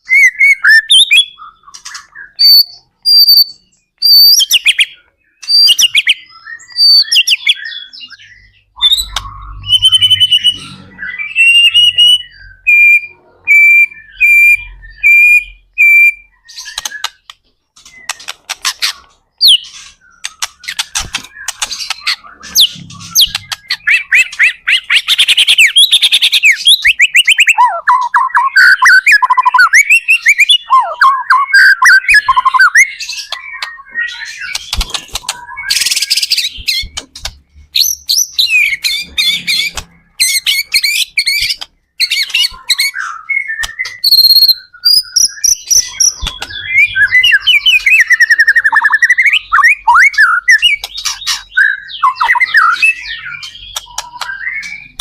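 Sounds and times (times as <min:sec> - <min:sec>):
fast bird trills and warble: 0:00.0 - 0:15.7, 0:16.3 - 0:55.0
clear whistled bird notes: 0:00.0 - 0:17.3, 0:19.4 - 0:37.0, 0:37.8 - 0:55.0
songbird singing varied phrases: 0:00.0 - 0:17.4, 0:19.3 - 0:37.0, 0:37.8 - 0:55.0.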